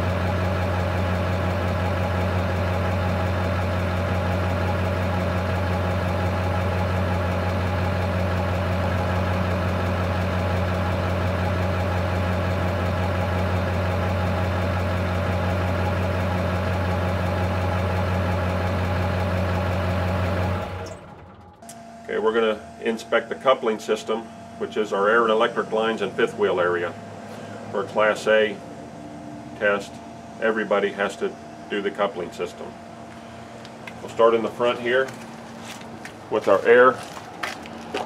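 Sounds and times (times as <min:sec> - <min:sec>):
diesel truck engine idling: 0:00.0 - 0:38.0.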